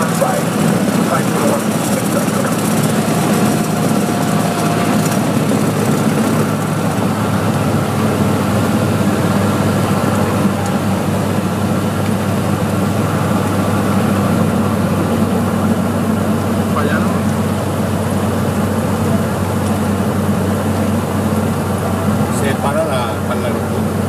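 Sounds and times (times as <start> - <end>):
piston engine and propeller running: 0.0 - 24.0.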